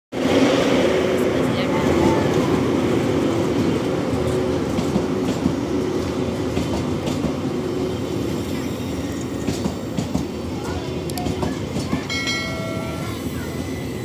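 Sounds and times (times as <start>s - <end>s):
train wheels rumbling: 0.2s - 14.0s.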